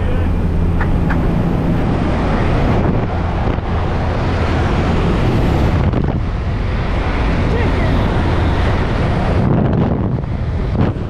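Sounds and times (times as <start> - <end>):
plane engine and propeller droning: 0.0 - 11.0
wind buffeting microphone: 0.0 - 11.0.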